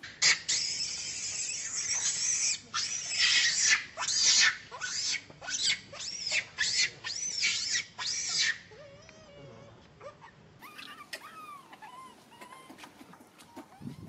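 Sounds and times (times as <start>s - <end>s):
monkey screaming: 0.0s - 8.9s, 10.0s - 12.9s.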